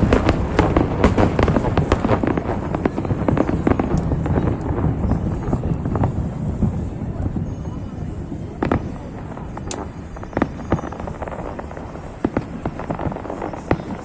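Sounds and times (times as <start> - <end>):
continuous low rumble: 0.0 - 14.0
fireworks bangs and crackles: 0.0 - 14.0.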